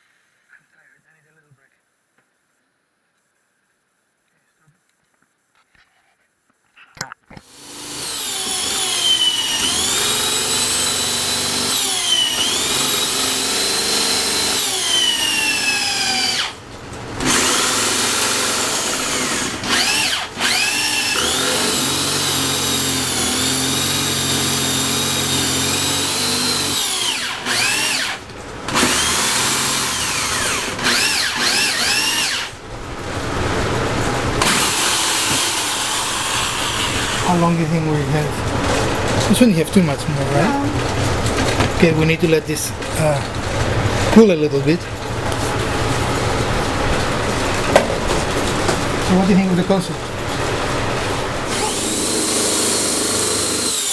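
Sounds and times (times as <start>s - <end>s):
power tool motor whining: 7.4s - 53.9s.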